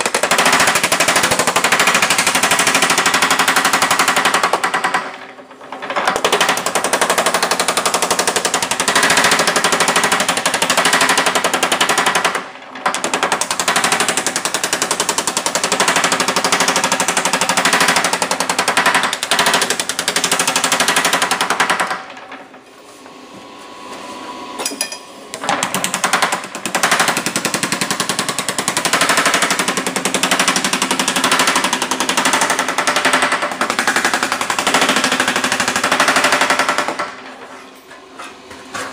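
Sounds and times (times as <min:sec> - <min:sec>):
power hammer pounding sheet metal: 0:00.0 - 0:22.5, 0:25.4 - 0:37.4.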